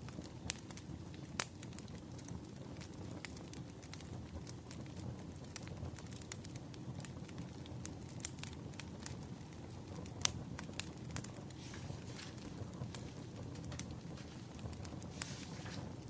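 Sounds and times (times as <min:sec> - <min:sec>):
fire low rumble: 0:00.0 - 0:16.0
firewood crackling and popping: 0:00.0 - 0:16.0.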